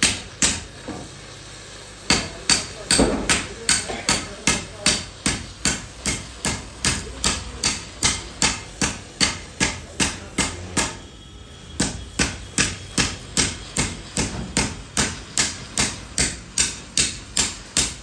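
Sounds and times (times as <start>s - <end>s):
hammer on metal: 0.0s - 1.1s, 2.1s - 18.0s.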